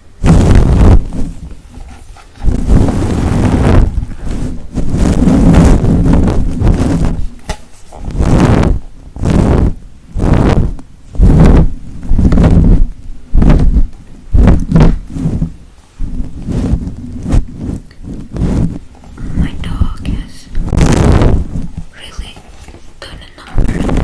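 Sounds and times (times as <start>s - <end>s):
brush swishing on microphone: 0.2s - 24.0s.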